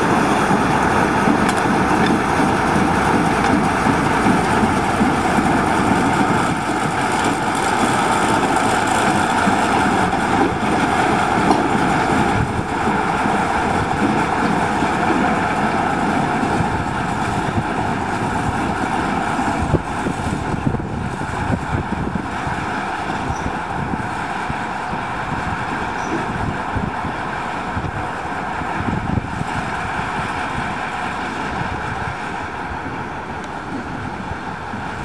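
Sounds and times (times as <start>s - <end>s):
diesel locomotive engine running: 0.0s - 35.0s.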